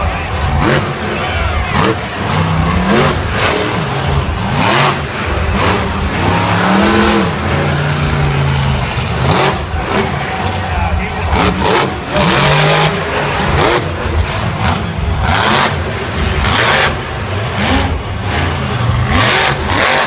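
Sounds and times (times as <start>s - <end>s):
arena crowd noise: 0.0s - 20.0s
monster truck engine revving: 0.0s - 20.0s.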